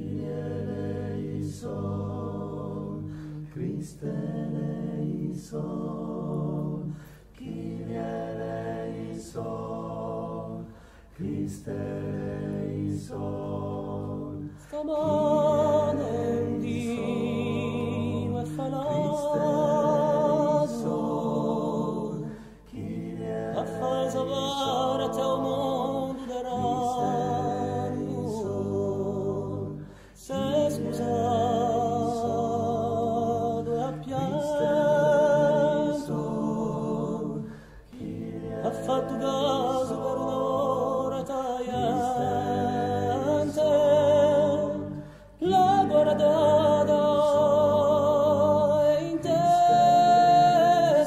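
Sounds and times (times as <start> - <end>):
male vocal ensemble singing: 0.0 - 51.0.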